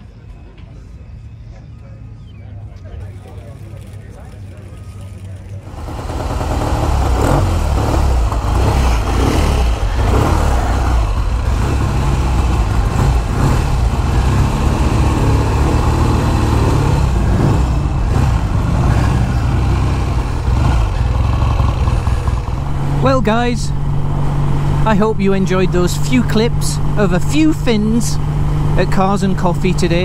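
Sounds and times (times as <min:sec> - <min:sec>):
motorcycle engine running: 0:05.5 - 0:30.0.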